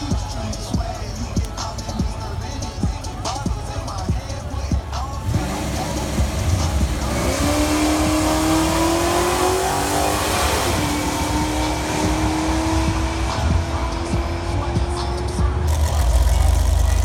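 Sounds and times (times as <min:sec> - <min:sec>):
drag racing car accelerating: 0:00.0 - 0:17.0.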